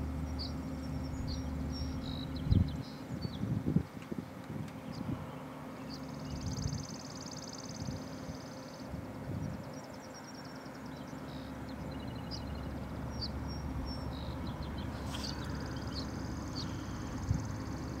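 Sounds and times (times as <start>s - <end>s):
steady low rumble: 0.0s - 10.2s, 10.8s - 18.0s
songbirds singing: 0.0s - 18.0s.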